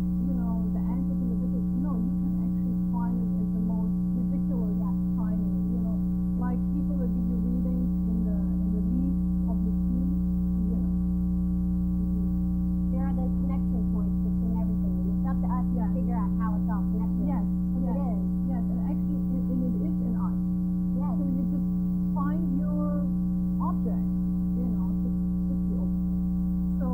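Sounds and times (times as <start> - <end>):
loud electrical hum: 0.0 - 26.9.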